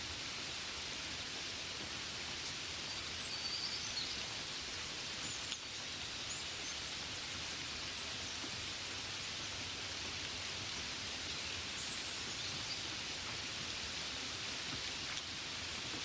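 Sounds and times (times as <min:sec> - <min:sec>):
gentle rain: 0:00.0 - 0:16.0.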